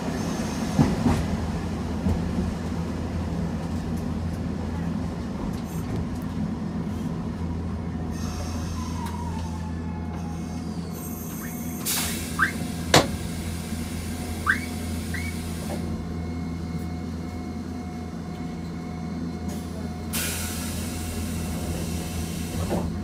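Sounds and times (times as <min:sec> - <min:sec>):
tramcar electric hum: 0:00.0 - 0:23.0.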